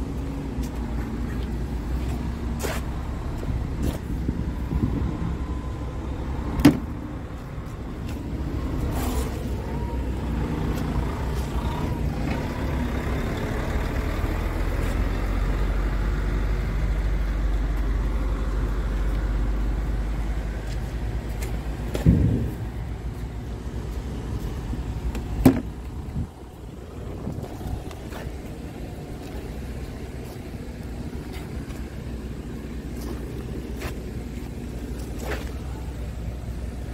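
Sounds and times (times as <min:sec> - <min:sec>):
diesel truck engine idling: 0:00.0 - 0:36.9.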